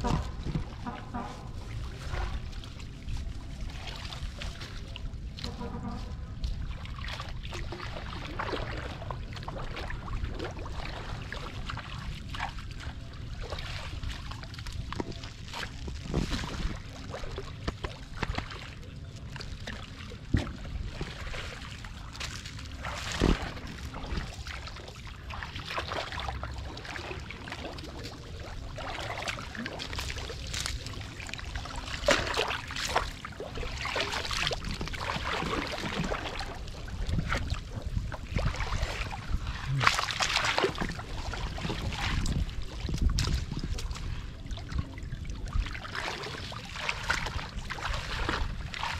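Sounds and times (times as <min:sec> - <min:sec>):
muddy water sloshing and splashing: 0:00.0 - 0:48.9.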